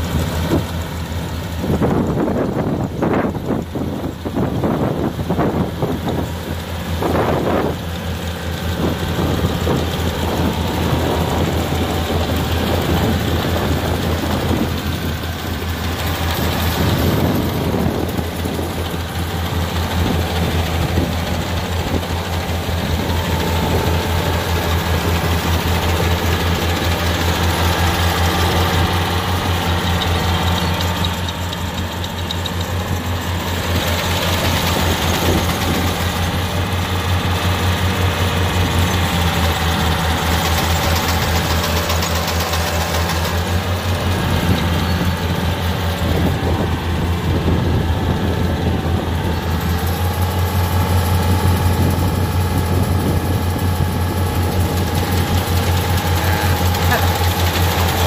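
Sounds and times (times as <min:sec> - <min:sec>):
cutting and threshing machinery: 0:00.0 - 0:58.0
diesel engine droning: 0:00.0 - 0:58.0.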